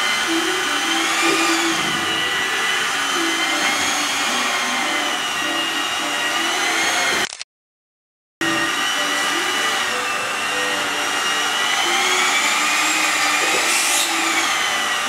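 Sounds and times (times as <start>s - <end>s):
electric hand mixer whining: 0.0s - 7.3s, 8.4s - 15.0s.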